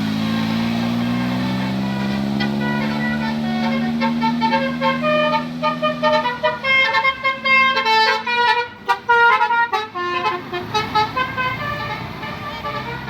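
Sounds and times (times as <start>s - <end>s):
musical bus horn playing tune: 1.0s - 13.0s.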